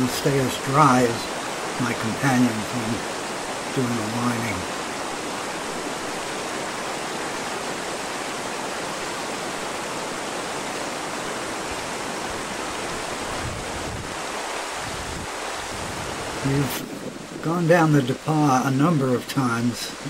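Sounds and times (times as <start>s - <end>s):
river rushing over boulders: 0.0s - 20.0s.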